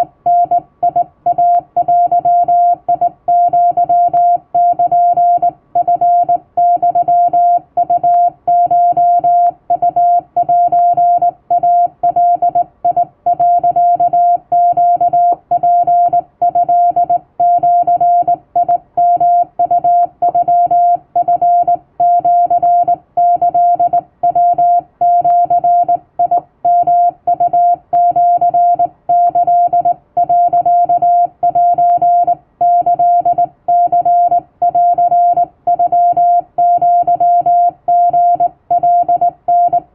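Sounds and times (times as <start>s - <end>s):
morse code beeps: 0.3s - 39.9s.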